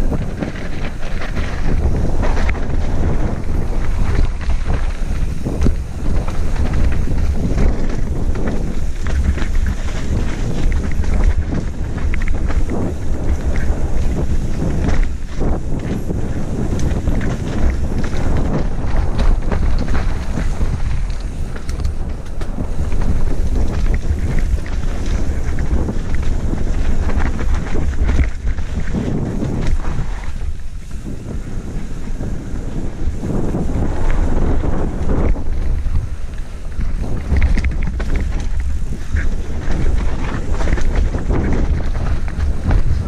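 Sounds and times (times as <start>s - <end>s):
bike rattling over rough ground: 0.0s - 43.0s
wind buffeting microphone: 0.0s - 43.0s.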